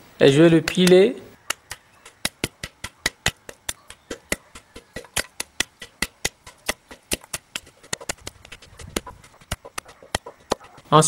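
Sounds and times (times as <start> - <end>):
wooden pestle pounding in mortar: 0.6 - 11.0.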